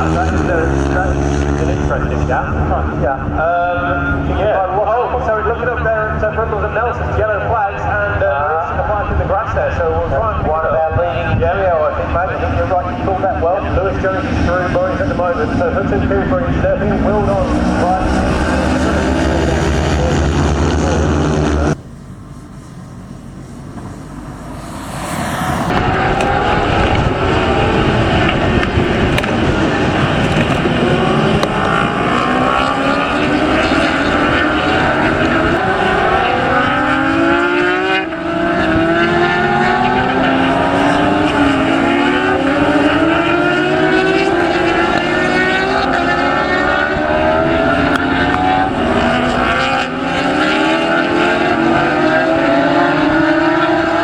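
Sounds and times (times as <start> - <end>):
racing motorcycles at full throttle: 0.0 - 54.0.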